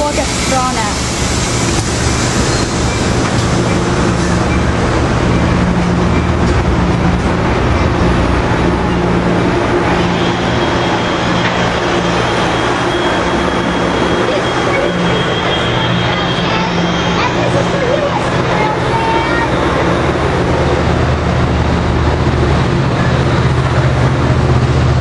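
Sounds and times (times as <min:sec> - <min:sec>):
diesel locomotive engine drone: 0:00.0 - 0:25.0
train rolling noise: 0:00.0 - 0:25.0.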